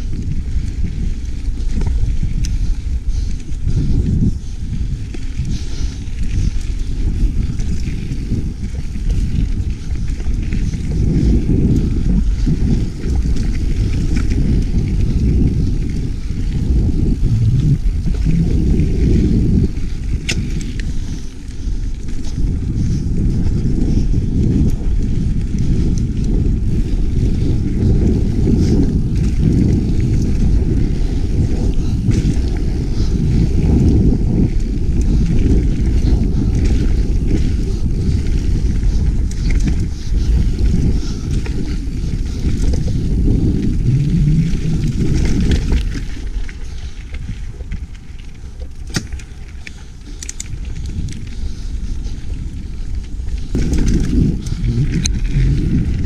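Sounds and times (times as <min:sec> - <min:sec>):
bike clicks and rattles: 0:00.0 - 0:56.0
tyres rolling on dirt trail: 0:00.0 - 0:56.0
wind on microphone: 0:00.0 - 0:56.0.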